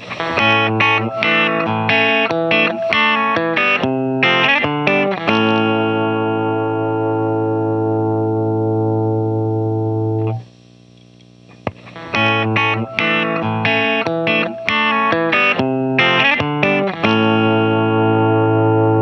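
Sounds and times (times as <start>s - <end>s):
electric guitar notes and chord: 0.0s - 10.4s, 11.6s - 19.0s.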